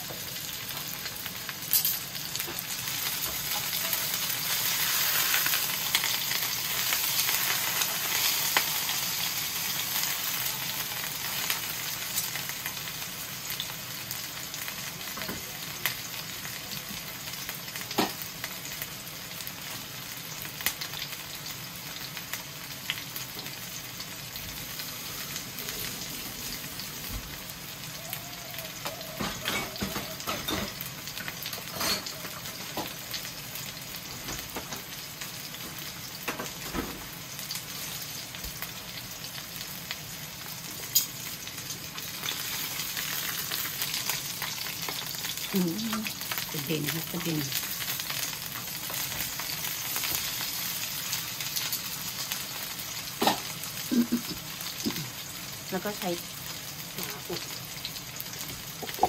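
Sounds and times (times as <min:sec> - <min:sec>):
chicken sizzling in a frying pan: 0:00.0 - 0:59.0.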